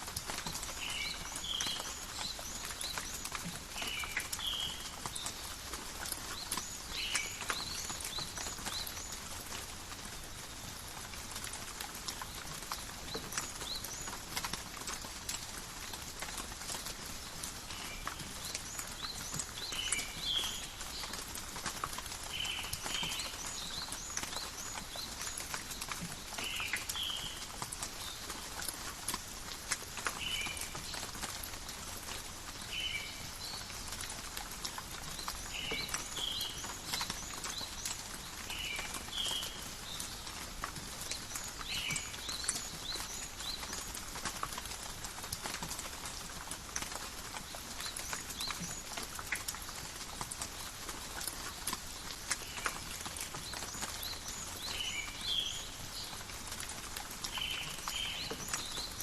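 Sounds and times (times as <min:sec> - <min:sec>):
rain pattering in forest: 0:00.0 - 0:59.0.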